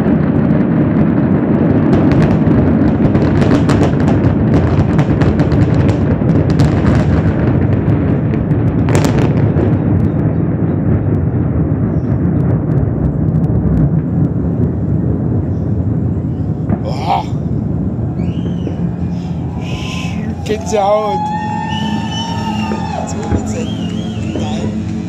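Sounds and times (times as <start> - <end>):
fireworks crackling bangs: 0.0 - 25.0
loud firework burst: 0.0 - 25.0
low rumble: 0.0 - 25.0.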